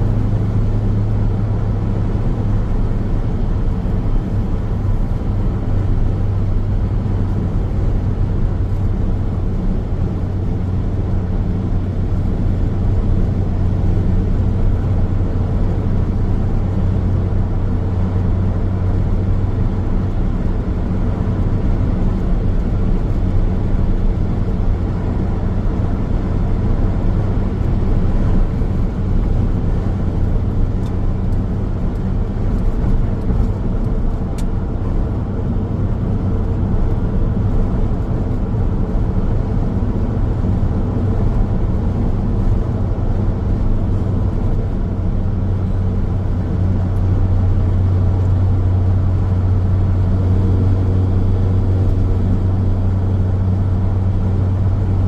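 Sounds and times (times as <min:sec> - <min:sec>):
car driving hum: 0:00.0 - 0:55.0.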